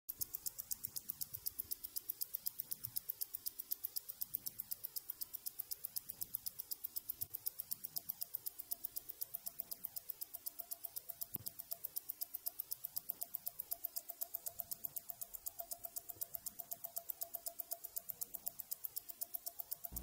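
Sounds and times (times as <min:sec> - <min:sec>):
mechanical watch ticking: 0:00.1 - 0:20.0.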